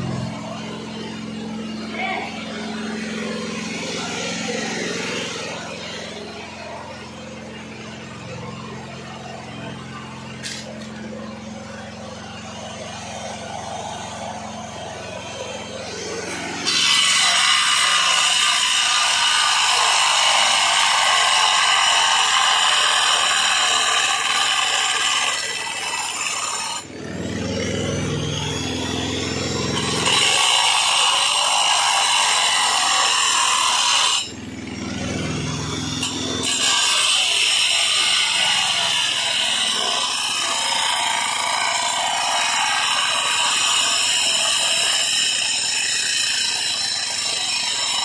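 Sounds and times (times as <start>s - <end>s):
angle grinder cutting tile: 0.0s - 48.0s.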